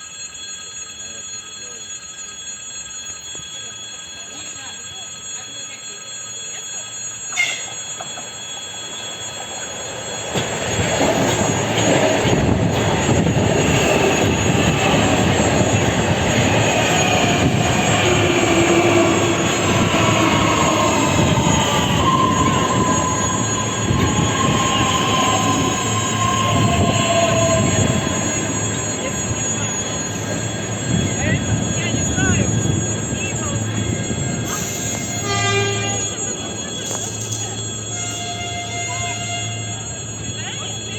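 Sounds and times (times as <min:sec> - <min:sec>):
train whining tones: 0:00.0 - 0:40.9
train wheels rumbling on rail: 0:07.3 - 0:40.9.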